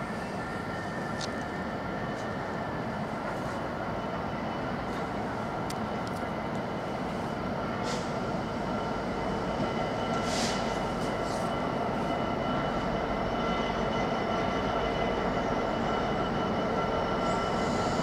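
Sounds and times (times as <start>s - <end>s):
electric trains humming and whining: 0.0s - 18.0s.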